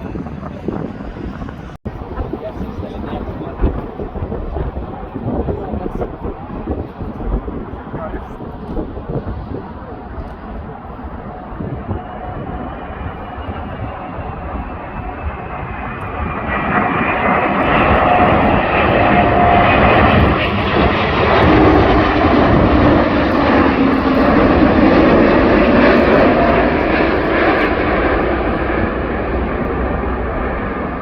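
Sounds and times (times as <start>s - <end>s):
jet airliner roar: 0.0s - 31.0s
jet engine whine: 0.0s - 31.0s.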